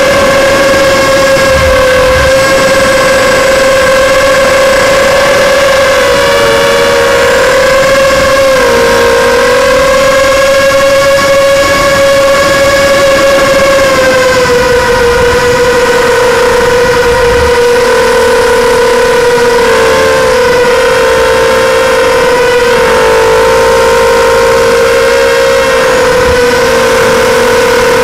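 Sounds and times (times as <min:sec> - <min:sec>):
quadcopter propellers whining: 0:00.0 - 0:28.0.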